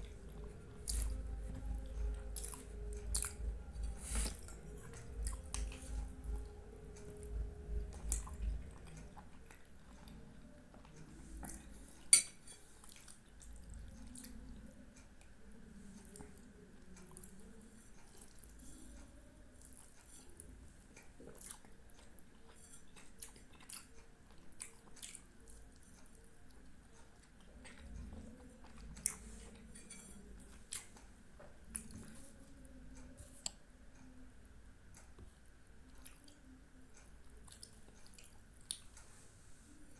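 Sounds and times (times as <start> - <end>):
person chewing soft sweets: 0.0 - 34.2, 34.9 - 39.9.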